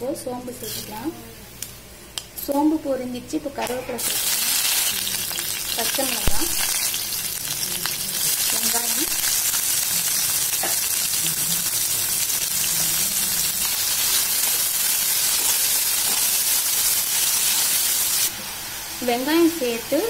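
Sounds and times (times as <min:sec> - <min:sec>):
onions sizzling in hot oil: 0:03.6 - 0:20.0.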